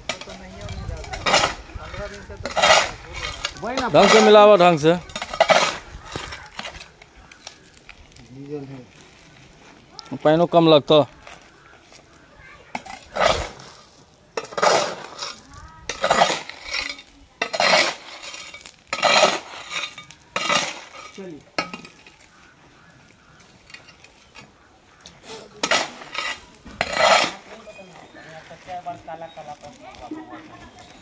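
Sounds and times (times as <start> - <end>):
hoe scraping concrete mix: 0.0 - 31.0.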